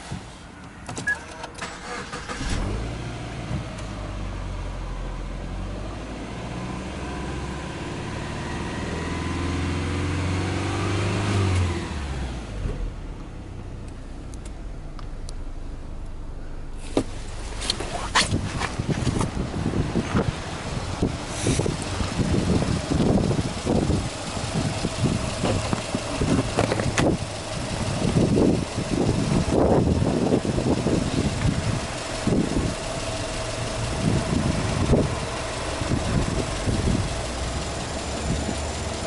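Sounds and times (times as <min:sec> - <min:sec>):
car engine starting and idling: 0:00.0 - 0:39.0.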